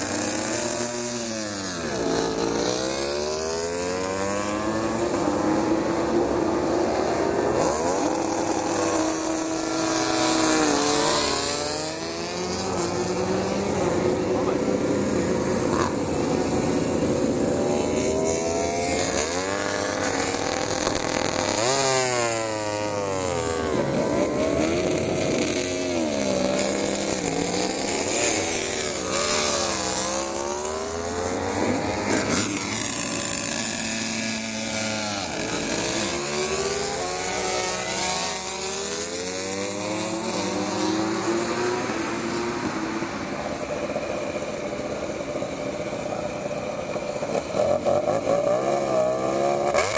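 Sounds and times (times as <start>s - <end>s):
racing motorcycles revving: 0.0s - 49.9s.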